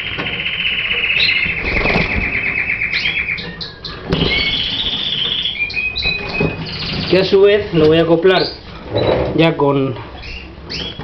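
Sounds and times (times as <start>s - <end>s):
canary trilling: 0.0s - 9.3s, 10.1s - 11.0s.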